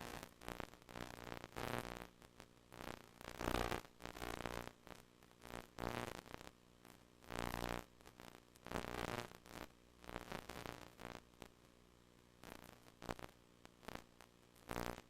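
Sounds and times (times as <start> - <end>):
crackly static: 0.0 - 15.0.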